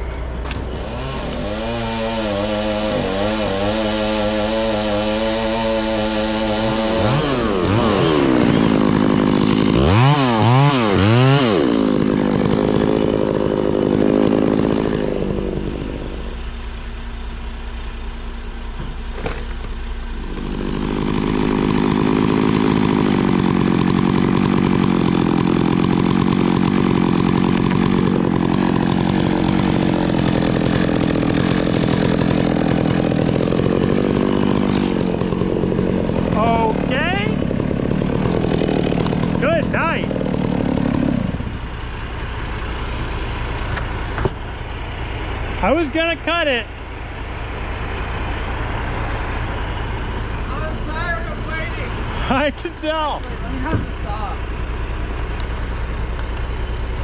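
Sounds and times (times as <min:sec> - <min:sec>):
chainsaw revving and cutting wood: 0:00.0 - 0:57.0.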